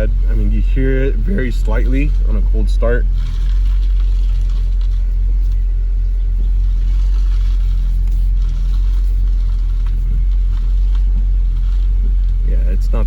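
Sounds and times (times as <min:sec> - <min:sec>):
car engine idling: 0:00.0 - 0:13.0
power steering pump whine: 0:00.0 - 0:13.0.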